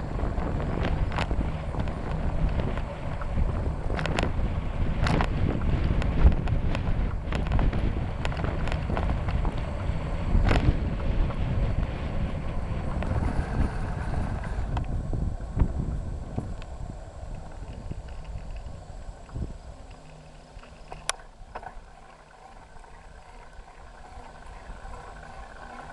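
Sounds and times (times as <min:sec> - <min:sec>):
bicycle tyres rumbling: 0:00.0 - 0:25.9
bike rattling and clicking: 0:00.0 - 0:25.9
wind buffeting microphone: 0:00.0 - 0:25.9.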